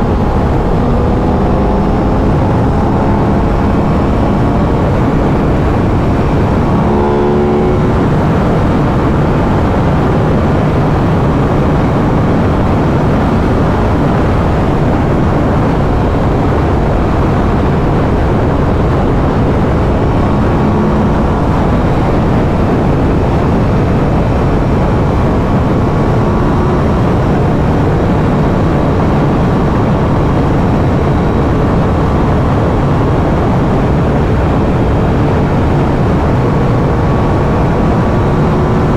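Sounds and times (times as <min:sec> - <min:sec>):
motorcycle engine cruising: 0:00.0 - 0:38.9
wind rush on microphone: 0:00.0 - 0:38.9.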